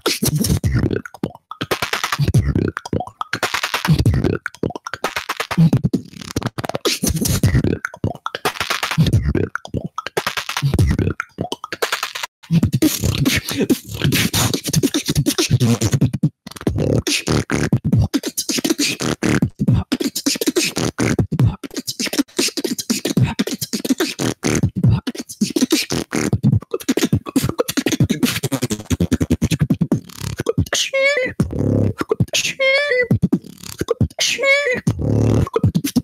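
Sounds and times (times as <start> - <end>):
beatboxing into microphone: 0.0 - 36.0.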